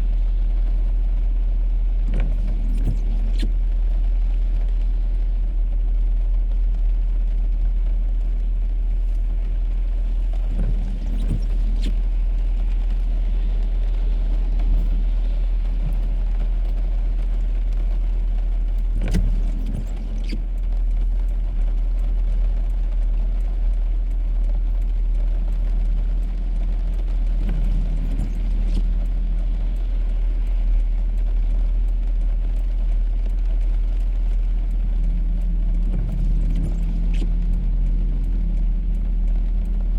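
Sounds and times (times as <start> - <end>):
car road rumble inside cabin: 0.0 - 39.9.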